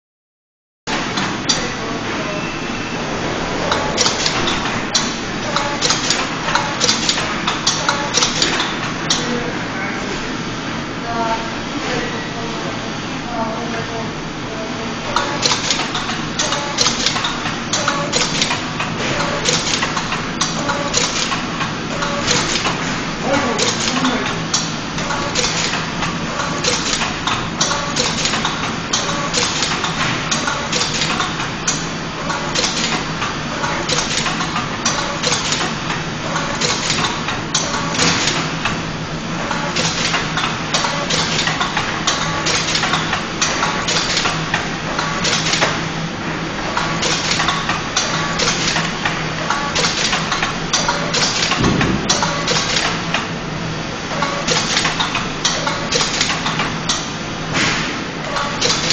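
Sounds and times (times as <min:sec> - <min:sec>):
machine motor hum: 0:00.9 - 0:58.9
sharp machine clacks: 0:03.6 - 0:09.3, 0:15.1 - 0:38.8, 0:39.4 - 0:45.8, 0:46.7 - 0:53.4, 0:54.1 - 0:58.9.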